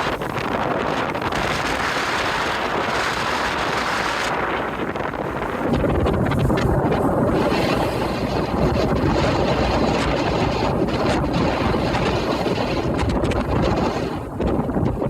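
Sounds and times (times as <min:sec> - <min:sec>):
ship low rumble: 0:00.0 - 0:15.0
wind buffeting microphone: 0:00.0 - 0:15.0.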